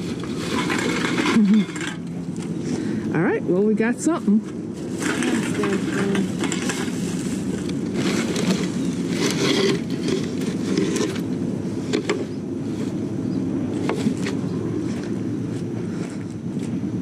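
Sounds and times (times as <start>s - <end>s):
vehicle rumbling: 0.0s - 17.0s.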